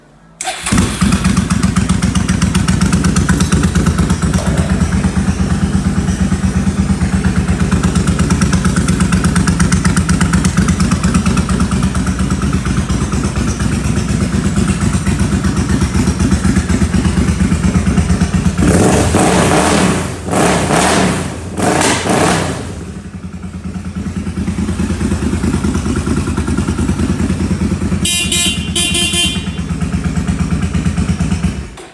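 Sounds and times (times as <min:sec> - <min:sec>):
motorcycle engine idling: 0:00.4 - 0:19.2, 0:22.6 - 0:31.9.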